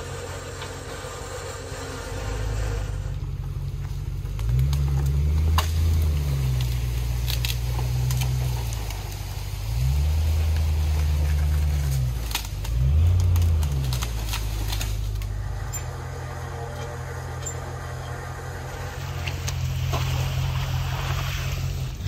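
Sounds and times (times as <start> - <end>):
car engine pulling: 0.0 - 22.0
tyres crunching over trail: 0.0 - 22.0.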